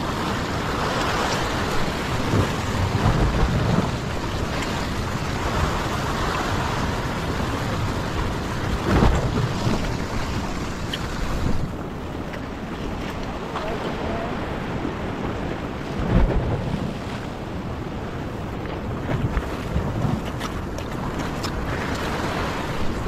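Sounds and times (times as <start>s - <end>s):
sea swell washing against rocks: 0.0s - 23.0s
wind rumbling on microphone: 0.0s - 23.0s.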